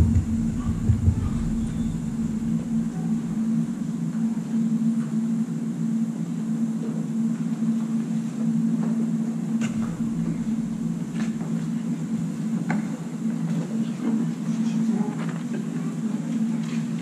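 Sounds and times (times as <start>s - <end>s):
low hum: 0.0s - 14.8s.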